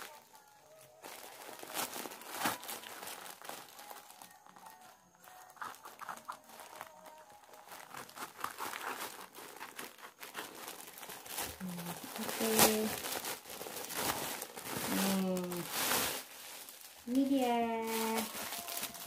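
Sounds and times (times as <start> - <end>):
plastic mailer bag crinkling: 0.0 - 19.0.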